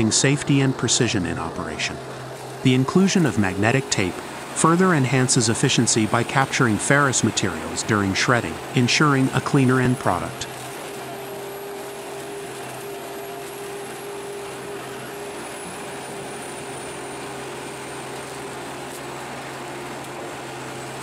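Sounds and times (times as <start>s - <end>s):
diesel stump shredder droning: 0.0s - 21.0s.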